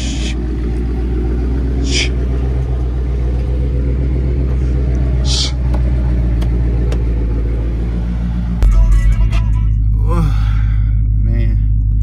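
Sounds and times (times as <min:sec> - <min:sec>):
car engine idling with deep rumble: 0:00.0 - 0:12.0.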